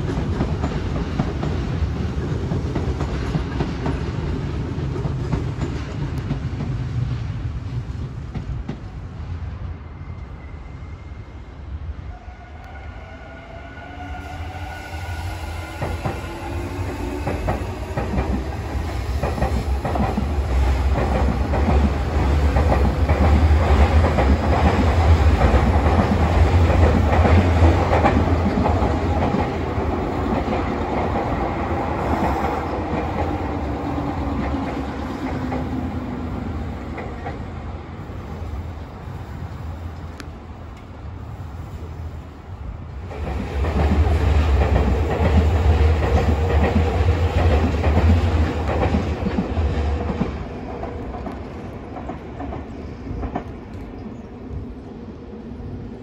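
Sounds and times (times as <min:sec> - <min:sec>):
wheel rumble and rail clatter: 0:00.0 - 0:10.4, 0:15.7 - 0:56.0
approaching train whine: 0:00.0 - 0:56.0.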